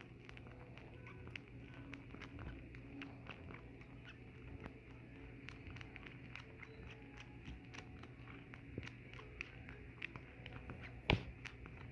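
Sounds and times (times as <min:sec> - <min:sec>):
cat suckling paw wet clicks: 0:00.0 - 0:11.9.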